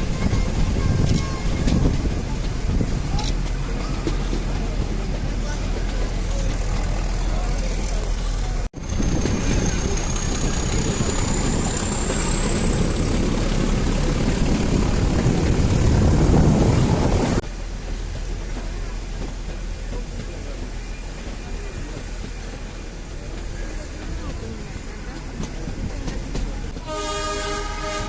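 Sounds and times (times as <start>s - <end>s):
toy train rumbling: 0.0s - 26.8s.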